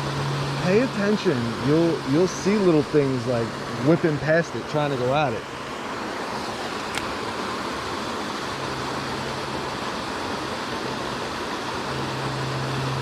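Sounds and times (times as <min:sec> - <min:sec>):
creek and waterfall rushing: 0:00.0 - 0:13.0
low steady hum: 0:00.0 - 0:13.0.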